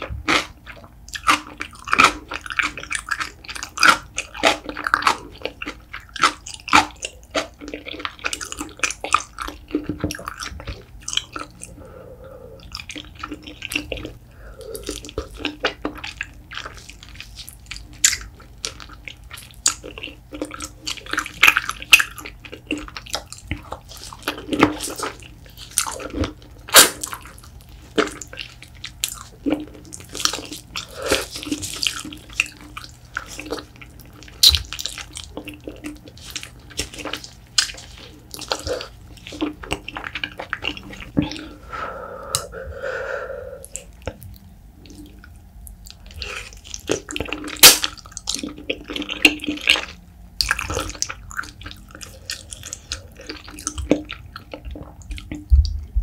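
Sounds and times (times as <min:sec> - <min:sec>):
wet sticky chewing: 0:00.0 - 0:56.0.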